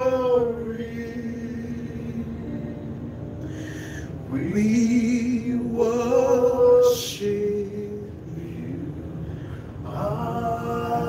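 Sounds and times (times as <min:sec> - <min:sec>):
person singing with vibrato: 0:00.0 - 0:11.0
steady sustained tone: 0:00.0 - 0:11.0.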